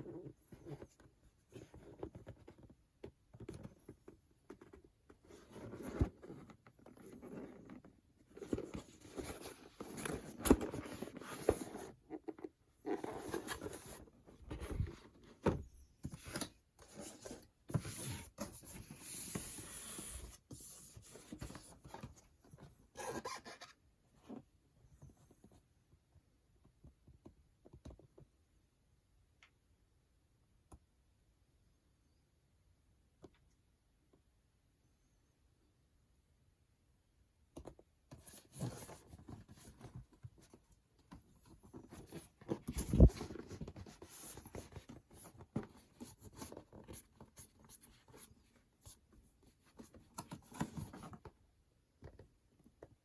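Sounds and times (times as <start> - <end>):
rustling and handling noises: 0.0 - 28.3, 37.6 - 53.0.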